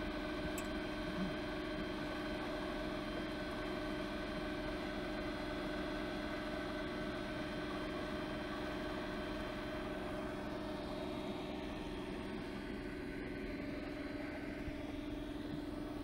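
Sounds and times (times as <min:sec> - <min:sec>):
electric outboard motor humming: 0:00.2 - 0:16.0.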